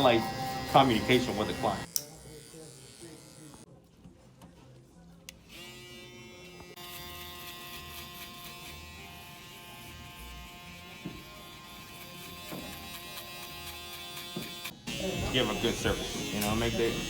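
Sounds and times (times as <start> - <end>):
electric hair clippers buzzing: 0.0 - 3.6, 5.4 - 17.0.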